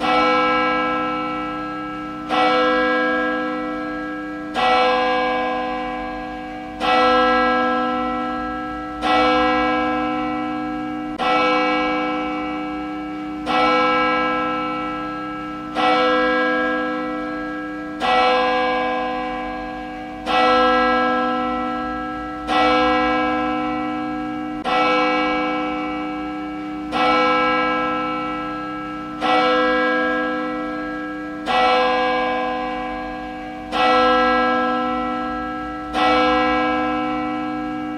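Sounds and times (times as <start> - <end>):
church bell tolling: 0.0 - 37.9.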